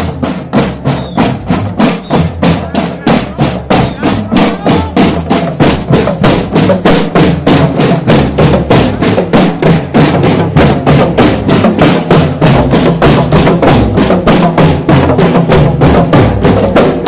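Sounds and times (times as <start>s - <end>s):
low drum notes: 0.0s - 17.0s
marching drum band playing: 0.0s - 17.0s.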